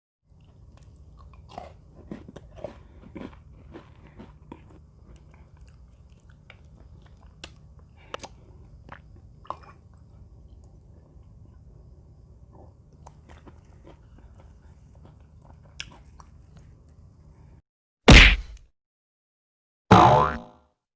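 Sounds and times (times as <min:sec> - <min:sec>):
cookies crunching while chewed: 0:00.3 - 0:17.1.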